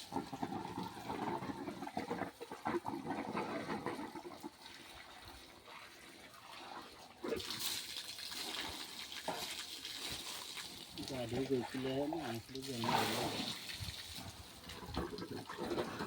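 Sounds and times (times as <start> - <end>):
water splashing and gushing: 0.0 - 16.0.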